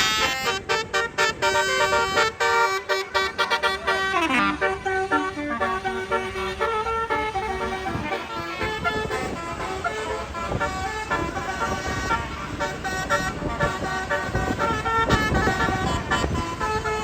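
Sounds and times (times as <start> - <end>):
bus engine rumble: 0.0 - 17.0
musical air horn melody: 0.0 - 17.0.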